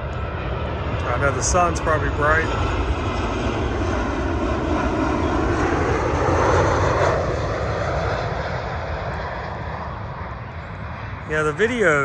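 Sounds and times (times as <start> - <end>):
airliner engine roar: 0.0 - 12.0.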